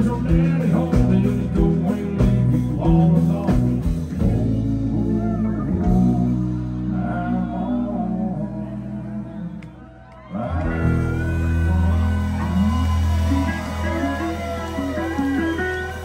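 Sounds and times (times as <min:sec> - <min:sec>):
country band playing: 0:00.0 - 0:16.0.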